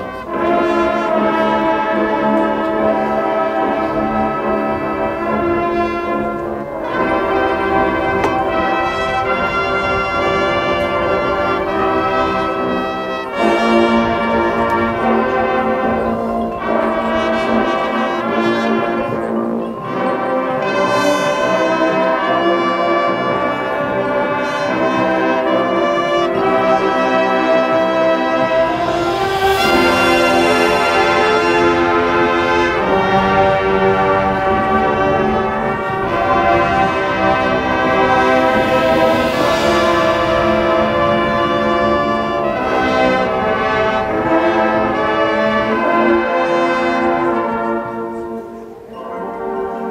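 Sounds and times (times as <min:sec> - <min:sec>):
marching band brass chords: 0:00.0 - 0:49.9.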